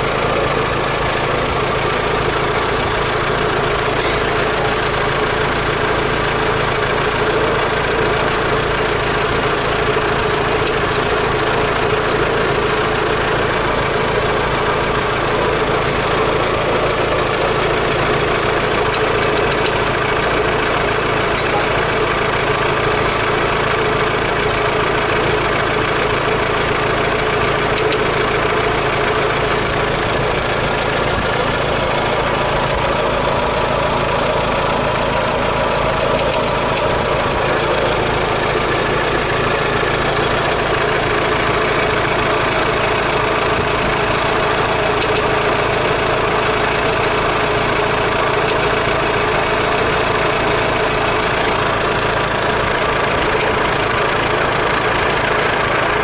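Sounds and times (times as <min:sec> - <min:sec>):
car engine idling with a knock: 0:00.0 - 0:56.0.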